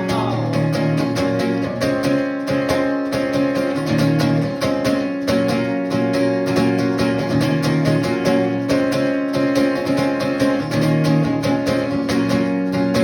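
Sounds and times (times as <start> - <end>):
strummed rock guitar: 0.0 - 13.0.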